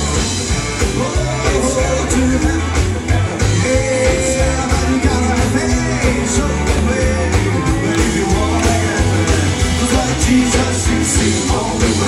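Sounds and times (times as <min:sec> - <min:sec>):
band playing upbeat rock and roll: 0:00.0 - 0:12.0
strong bass: 0:00.0 - 0:12.0.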